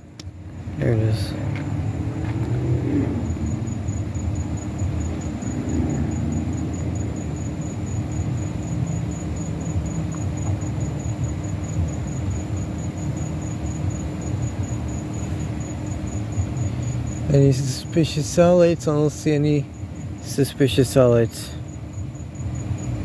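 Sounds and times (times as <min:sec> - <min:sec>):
cricket chirping: 0:00.0 - 0:23.0
low rumble and hum: 0:00.0 - 0:23.0.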